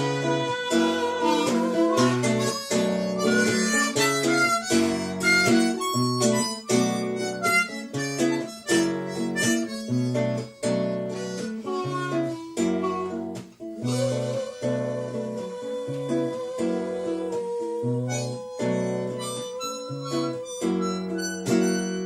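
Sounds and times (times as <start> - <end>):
acoustic guitar: 0.0 - 22.0
harmonica melody: 0.0 - 22.0.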